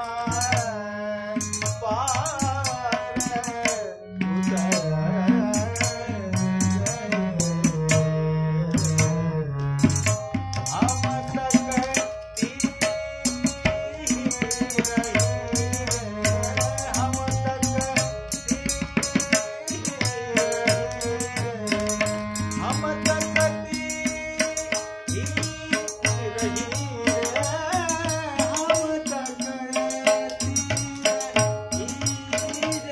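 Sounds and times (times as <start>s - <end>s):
harmonium notes: 0.0s - 32.9s
man singing: 0.0s - 32.9s
tabla strokes: 1.4s - 32.9s.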